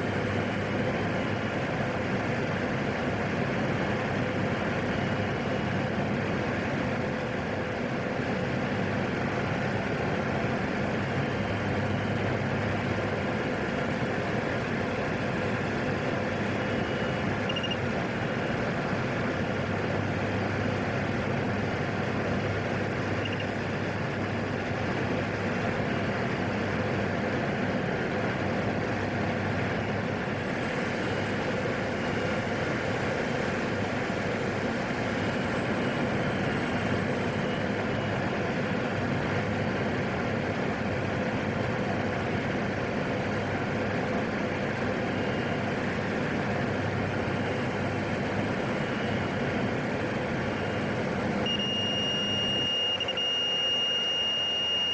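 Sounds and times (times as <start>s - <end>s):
turboprop engine drone in flight: 0.0s - 54.9s.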